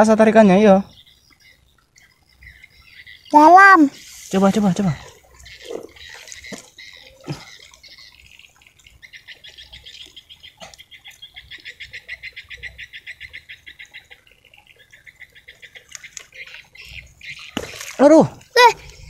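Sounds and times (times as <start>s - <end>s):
small animal trilling chirps: 0.7s - 19.0s.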